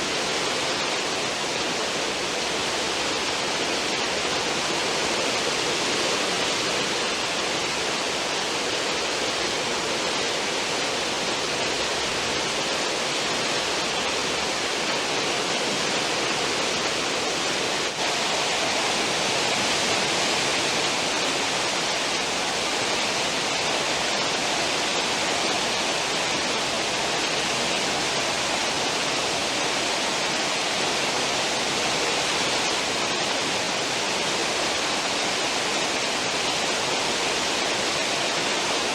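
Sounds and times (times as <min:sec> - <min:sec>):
ship wake churning seawater: 0:00.0 - 0:38.9.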